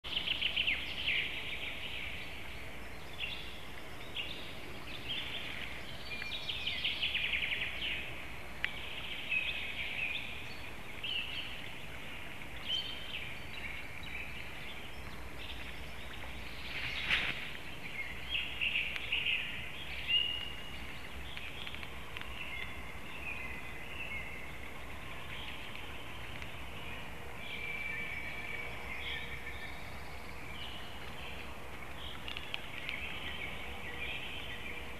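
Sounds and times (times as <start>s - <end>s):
songbirds chirping and trilling: 0.0s - 34.9s
low background hiss: 0.1s - 34.9s.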